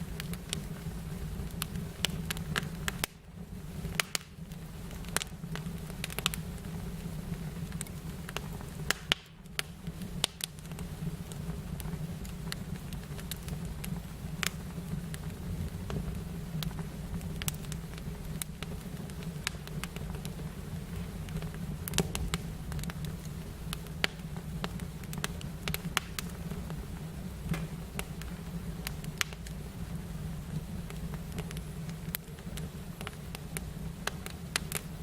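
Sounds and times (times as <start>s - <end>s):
fire crackling and popping: 0.0s - 35.0s
steady low hum: 0.0s - 35.0s.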